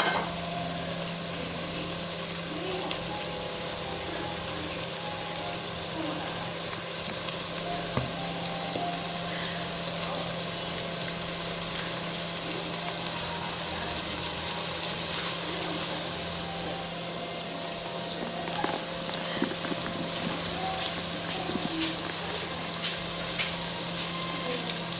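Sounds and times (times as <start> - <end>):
food sizzling in a pot: 0.0 - 24.9.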